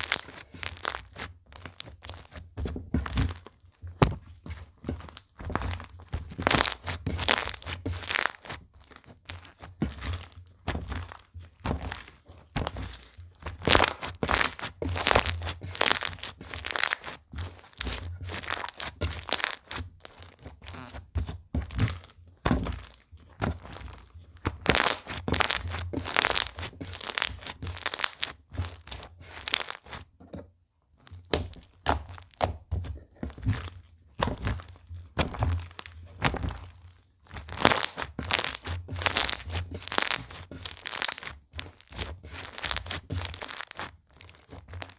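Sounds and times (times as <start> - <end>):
slime crackling and popping: 0.0 - 2.4, 5.0 - 30.1, 31.1 - 44.9.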